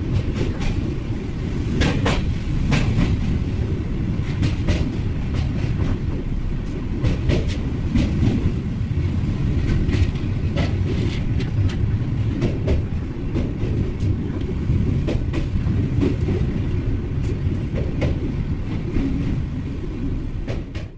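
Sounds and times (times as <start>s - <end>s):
train rumbling on track: 0.0s - 20.9s.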